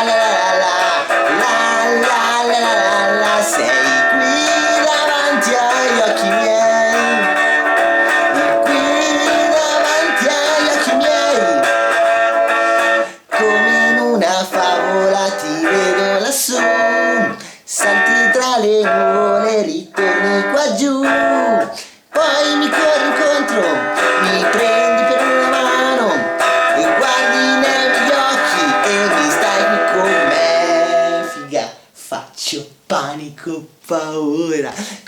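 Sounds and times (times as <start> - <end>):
electric guitar through small amplifier: 0.0 - 31.5.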